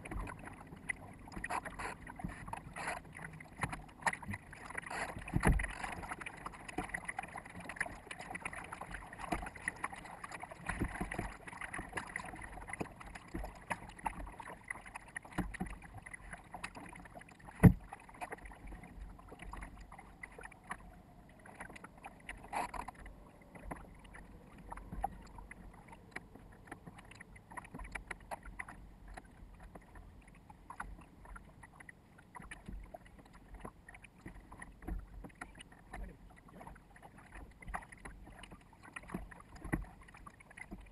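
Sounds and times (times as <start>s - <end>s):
water slapping against hull: 0.0s - 40.9s.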